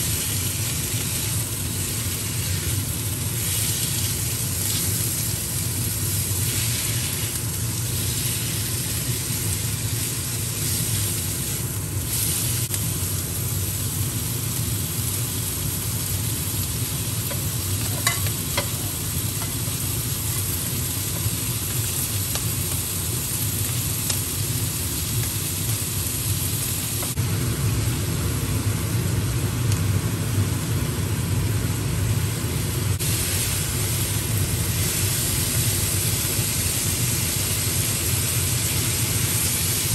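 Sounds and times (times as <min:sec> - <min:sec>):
meat and vegetables sizzling: 0:00.0 - 0:39.9
steady low hum: 0:00.0 - 0:39.9.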